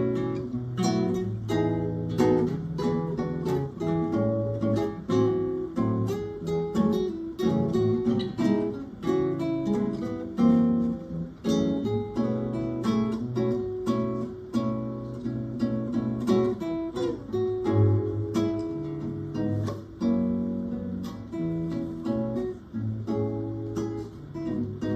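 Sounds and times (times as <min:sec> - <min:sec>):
acoustic guitars playing: 0:00.0 - 0:24.9.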